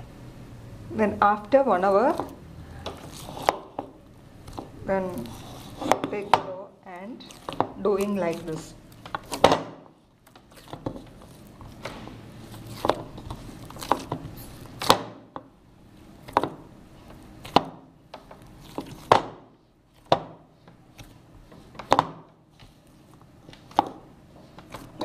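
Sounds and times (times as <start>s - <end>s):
dough being kneaded and punched: 1.4s - 25.0s.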